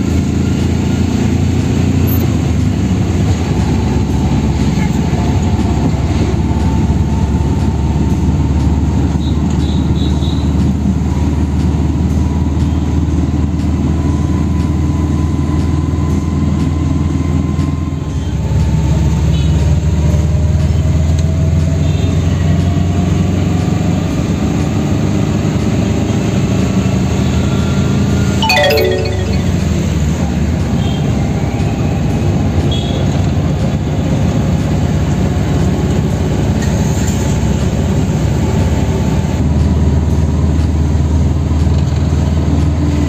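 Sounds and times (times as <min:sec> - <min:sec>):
road noise inside car: 0:00.0 - 0:19.5, 0:20.2 - 0:26.8, 0:30.9 - 0:43.0.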